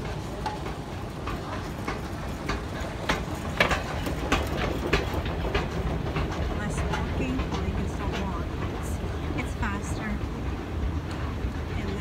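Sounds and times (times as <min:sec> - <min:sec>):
moving walkway rumble with clicks: 0:00.0 - 0:12.0.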